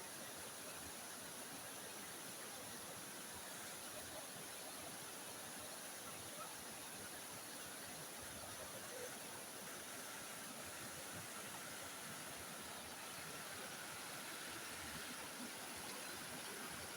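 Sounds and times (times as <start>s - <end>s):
faint waterfall rushing: 0.0s - 16.9s.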